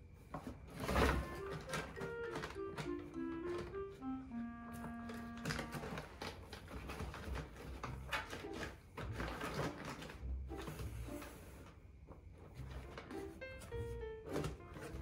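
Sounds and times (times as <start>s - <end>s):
cardboard and paper rustling: 0.3s - 15.0s
held music notes: 0.8s - 11.7s, 12.5s - 15.0s.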